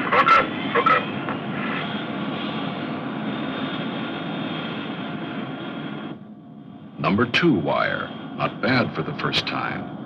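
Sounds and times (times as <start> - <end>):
aircraft engine rushing: 0.0 - 10.0.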